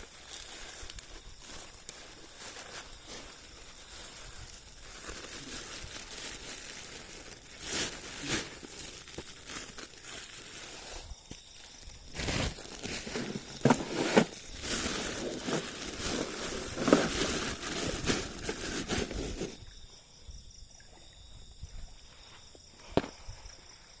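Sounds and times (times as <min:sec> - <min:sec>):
rustling and crinkling: 0:00.0 - 0:19.6.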